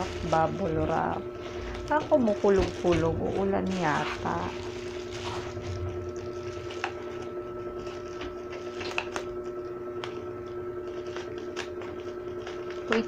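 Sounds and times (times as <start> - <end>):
bubble wrap crinkling: 0.0 - 13.0
steady hum: 0.0 - 13.0.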